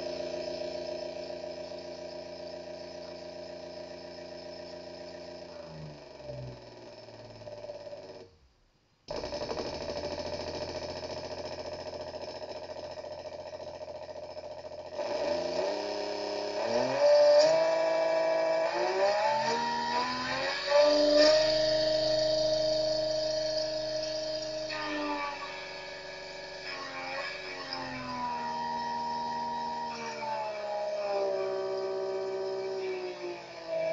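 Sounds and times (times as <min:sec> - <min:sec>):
electric motor whine: 0:00.0 - 0:08.3, 0:14.9 - 0:33.9.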